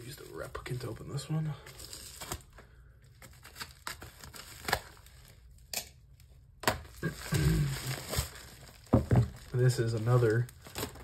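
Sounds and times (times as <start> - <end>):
packaging crinkling: 0.0 - 5.7, 6.6 - 11.0.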